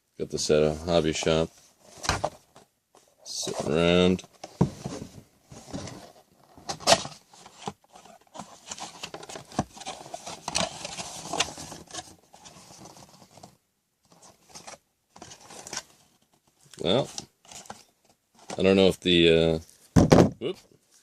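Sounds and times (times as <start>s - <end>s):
rustling and scratching of packaging: 0.4s - 20.0s.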